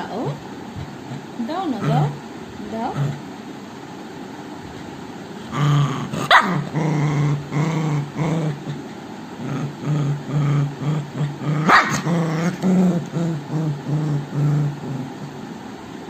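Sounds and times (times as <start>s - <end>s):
dog growling: 0.0s - 3.4s, 4.6s - 15.5s.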